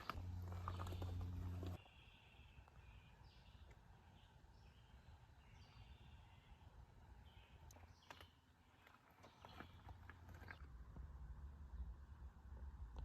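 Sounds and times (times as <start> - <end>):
distant birds chirping: 0.0 - 12.4.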